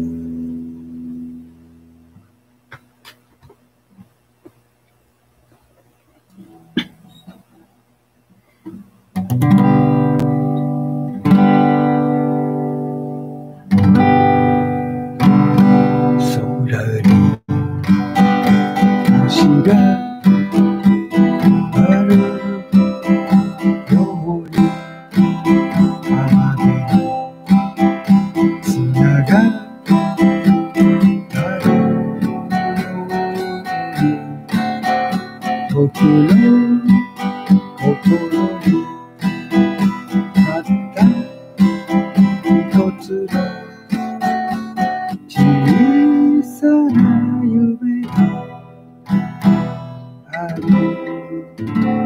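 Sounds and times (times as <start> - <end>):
acoustic guitar strumming chords: 0.0 - 4.6, 8.7 - 52.0.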